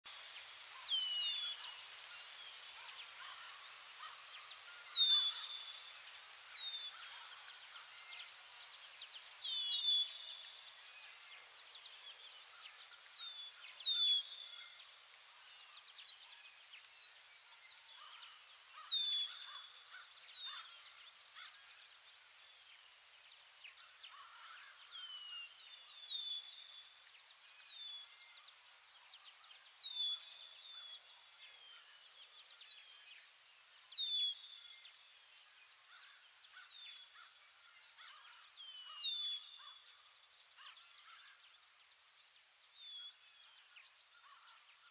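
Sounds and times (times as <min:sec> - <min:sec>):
songbird chirps: 0:00.0 - 0:44.9.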